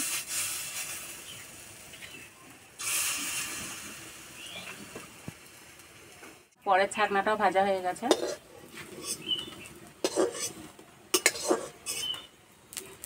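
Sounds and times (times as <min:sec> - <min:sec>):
batter sizzling in hot oil: 0:00.0 - 0:06.5, 0:07.4 - 0:13.0.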